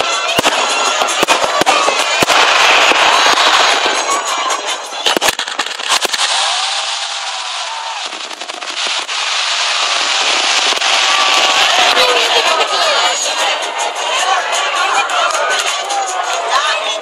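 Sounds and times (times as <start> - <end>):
fireworks bangs: 0.0 - 14.3
fireworks crackling hiss: 0.0 - 14.6.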